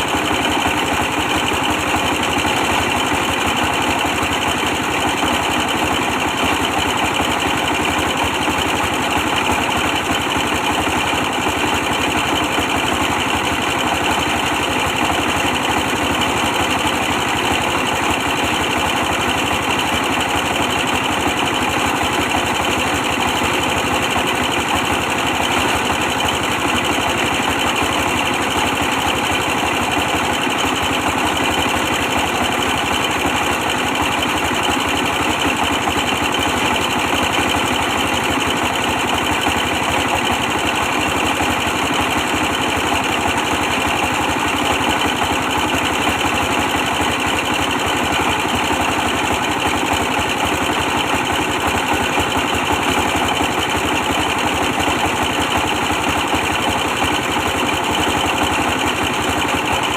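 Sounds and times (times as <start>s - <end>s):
stationary diesel engine running: 0.0s - 59.9s.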